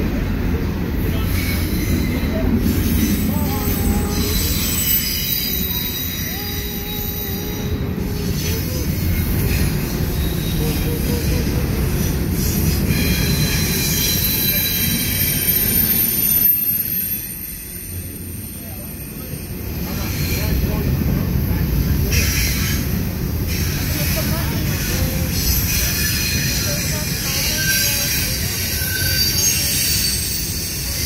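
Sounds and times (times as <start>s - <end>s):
train wheels rumbling on rails: 0.0s - 31.0s
wheel squeal: 1.1s - 20.6s, 24.7s - 31.0s.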